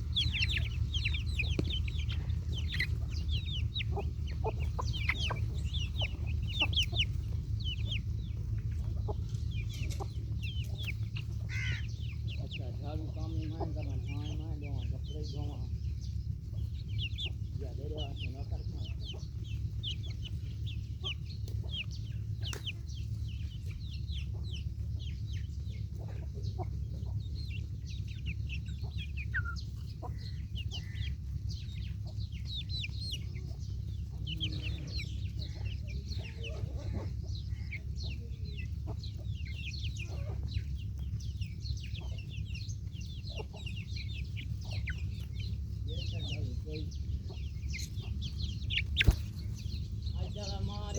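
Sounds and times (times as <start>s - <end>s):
baby chicks peeping: 0.0s - 50.9s
steady low rumble: 0.0s - 50.9s.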